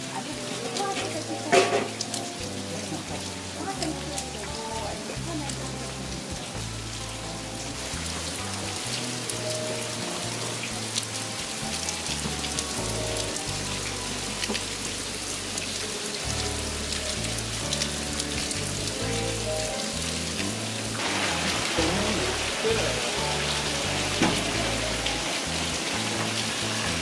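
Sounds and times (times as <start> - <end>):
soft background music with bass: 0.0 - 27.0
steady rain falling: 0.0 - 27.0.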